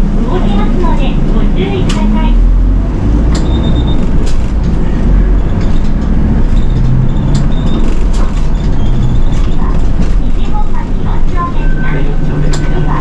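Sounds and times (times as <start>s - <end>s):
bus diesel engine running: 0.0s - 13.0s
road rumble: 0.0s - 13.0s.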